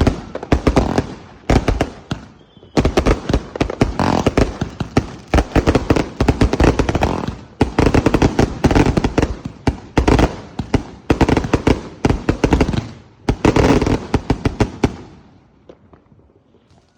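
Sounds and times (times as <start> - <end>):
firework cake rapid bangs: 0.0 - 15.1.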